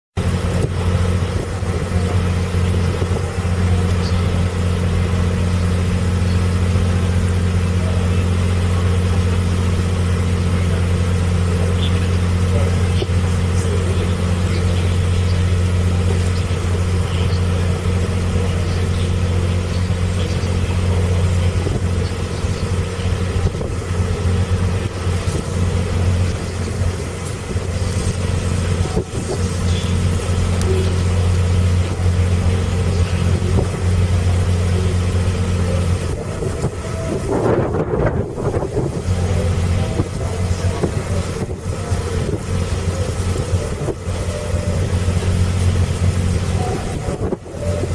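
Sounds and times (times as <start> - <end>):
boat engine droning: 0.1 - 47.9.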